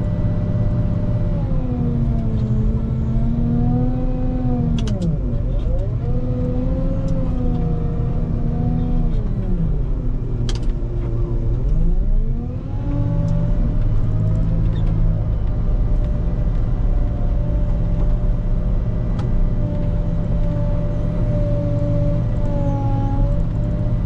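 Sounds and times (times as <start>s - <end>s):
diesel engine running at high revs: 0.0s - 24.0s.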